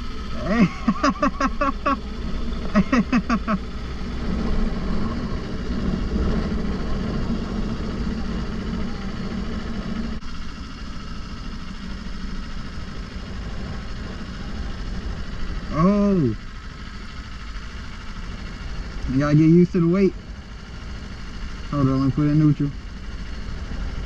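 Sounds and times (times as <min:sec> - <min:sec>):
motorcycle engine low rumble: 0:00.0 - 0:24.0.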